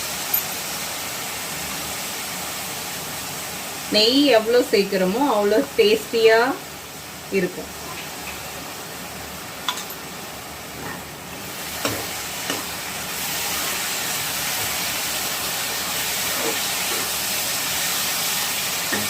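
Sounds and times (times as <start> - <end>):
ghee sizzling in a pan: 0.0 - 19.0.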